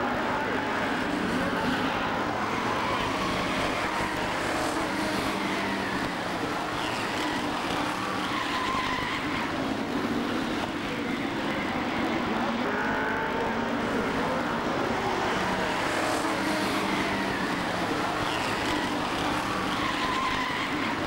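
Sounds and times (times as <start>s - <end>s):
racing car engines: 0.0s - 21.0s
tyres squealing: 0.0s - 21.0s.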